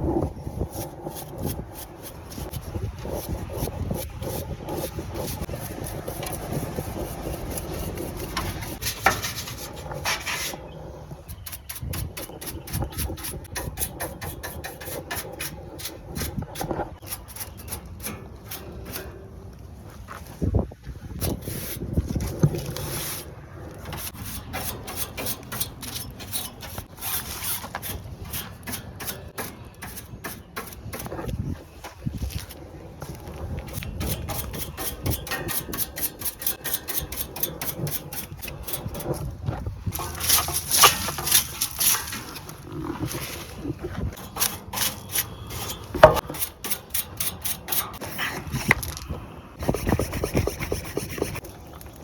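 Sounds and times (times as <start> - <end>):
rapid scrubbing strokes: 0.0 - 19.2, 21.2 - 51.6.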